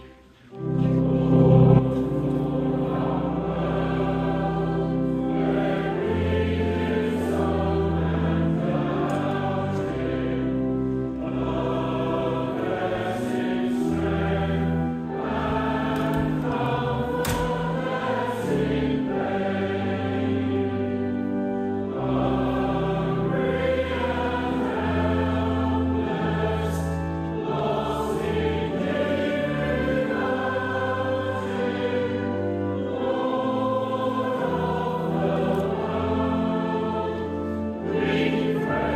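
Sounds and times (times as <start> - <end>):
choir singing held chords: 0.0 - 38.9
low sustained accompaniment: 0.0 - 38.9.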